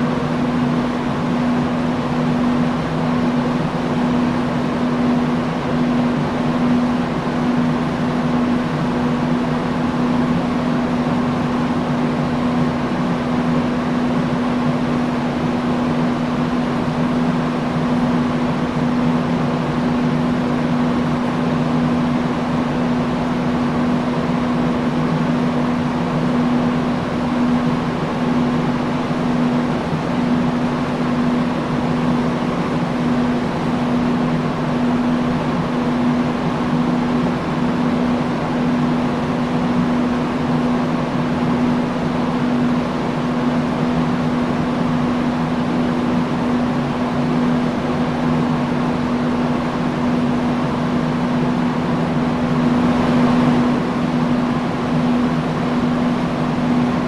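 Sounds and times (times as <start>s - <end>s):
industrial fan running: 0.0s - 57.0s.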